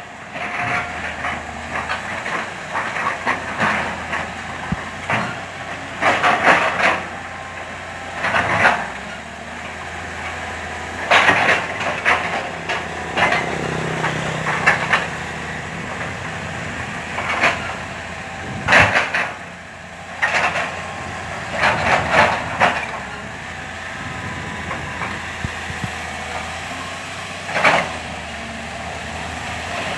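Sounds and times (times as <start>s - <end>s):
excavator diesel engine running: 0.0s - 29.9s
soil and stones scraping: 0.4s - 29.9s.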